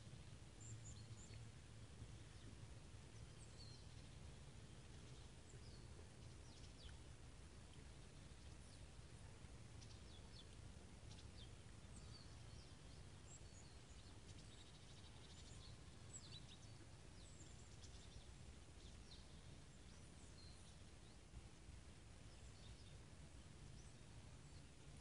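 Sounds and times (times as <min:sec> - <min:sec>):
low steady rumble: 0:00.0 - 0:25.0
songbirds chirping: 0:00.0 - 0:25.0.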